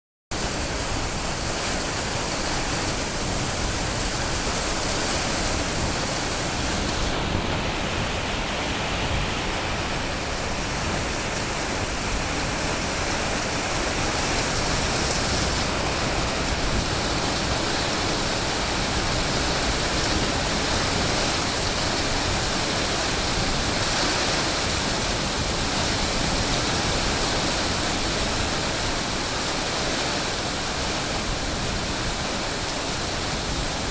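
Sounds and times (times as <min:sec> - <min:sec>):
heavy rain falling: 0:00.3 - 0:33.9.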